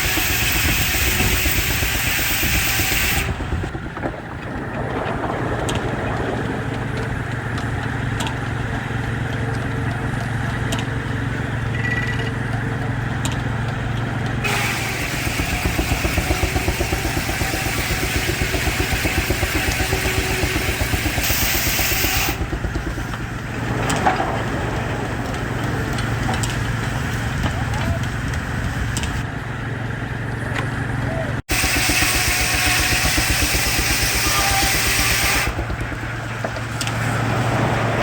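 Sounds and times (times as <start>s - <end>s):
steam engine exhaust beats: 0.0s - 38.0s
steam engine low hum: 0.0s - 38.0s.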